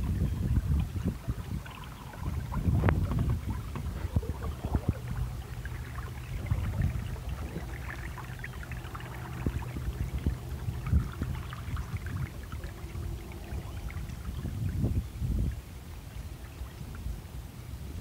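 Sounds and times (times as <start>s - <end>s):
small splashes: 0.0s - 14.6s
low steady rumble: 0.0s - 18.0s
water lapping along a hull: 0.0s - 18.0s.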